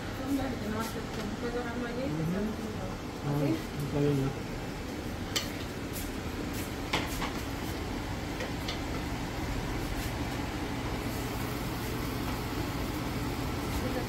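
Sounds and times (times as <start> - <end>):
low appliance hum: 0.0 - 14.0.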